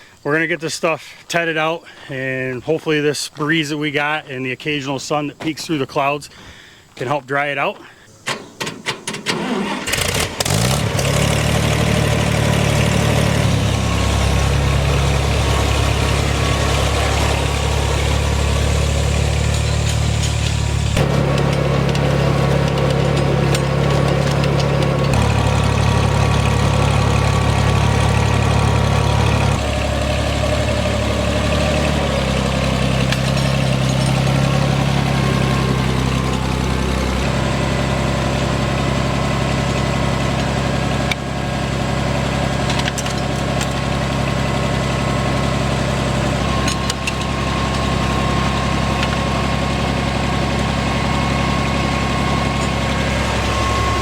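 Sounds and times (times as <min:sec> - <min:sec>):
tractor engine running: 0:08.2 - 0:54.0.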